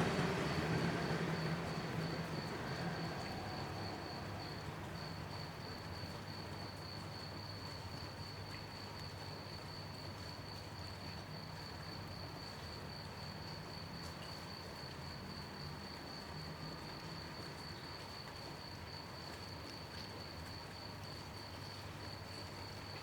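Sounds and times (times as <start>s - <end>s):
crickets chirping: 0.0s - 23.0s
light rain hiss: 0.0s - 23.0s.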